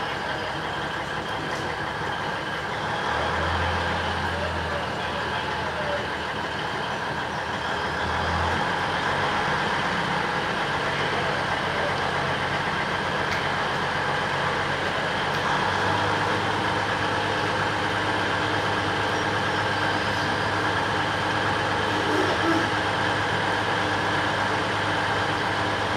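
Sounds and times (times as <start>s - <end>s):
diesel locomotive idling: 0.0s - 25.9s.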